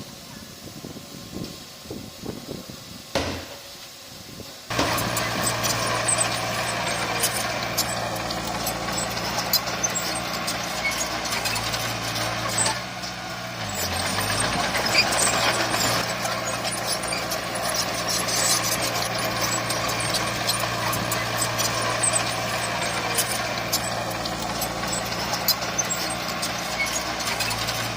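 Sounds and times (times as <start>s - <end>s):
diesel machinery engine running: 4.6s - 27.9s
metallic clanks and rattles: 4.7s - 27.9s.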